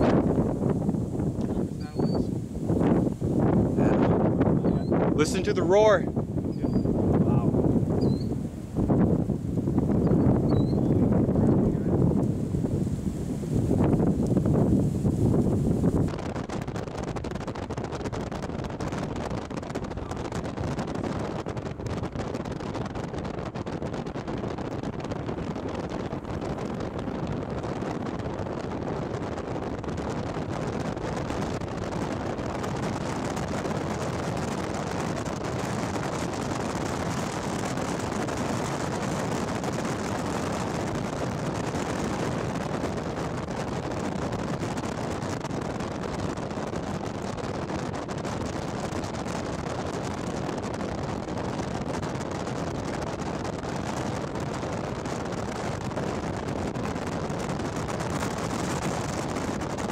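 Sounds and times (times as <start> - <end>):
strong wind roaring: 0.0 - 59.9
wind buffeting microphone: 0.0 - 59.9.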